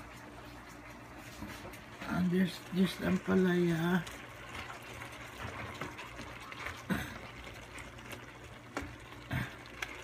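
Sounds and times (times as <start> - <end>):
stock simmering in a pan: 0.0 - 10.0.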